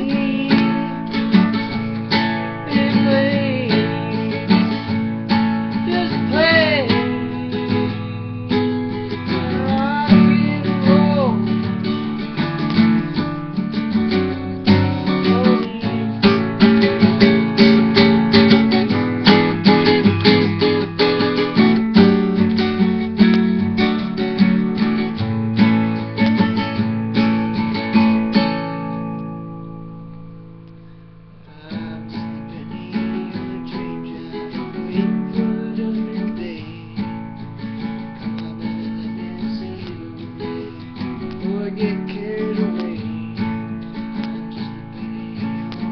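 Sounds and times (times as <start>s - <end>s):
acoustic guitar strumming: 0.0s - 45.9s.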